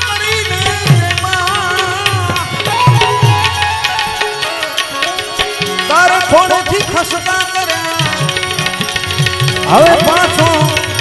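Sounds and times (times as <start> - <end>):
harmonium: 0.0 - 11.0
tabla drum strokes: 0.0 - 11.0.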